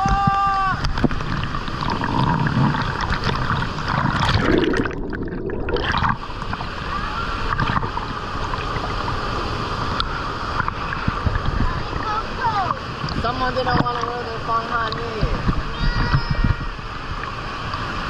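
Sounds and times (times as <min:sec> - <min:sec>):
rushing river water: 0:00.0 - 0:18.0.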